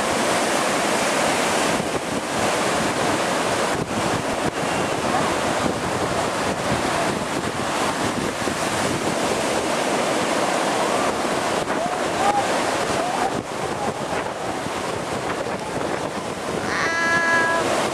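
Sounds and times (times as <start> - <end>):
heavy surf breaking: 0.0 - 17.9
wind buffeting microphone: 0.0 - 17.9.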